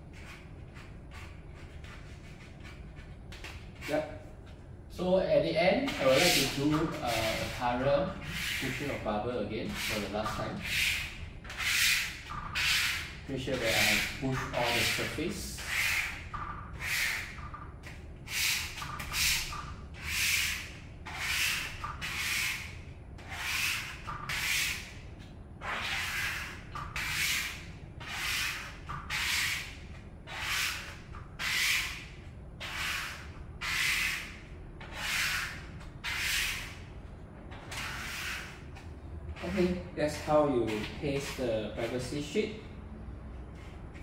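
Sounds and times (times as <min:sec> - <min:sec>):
plastic squeegee rubbing on film: 0:00.0 - 0:04.6, 0:05.8 - 0:42.4.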